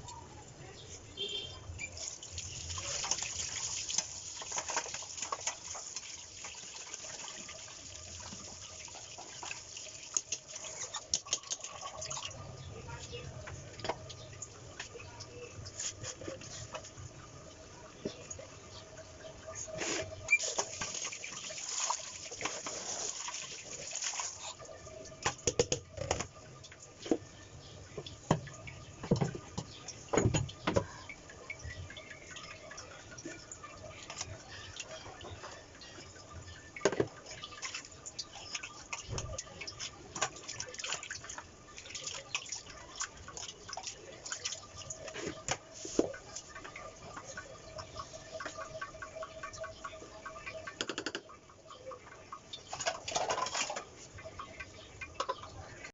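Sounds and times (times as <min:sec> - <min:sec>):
water running in sink: 0:01.2 - 0:55.9.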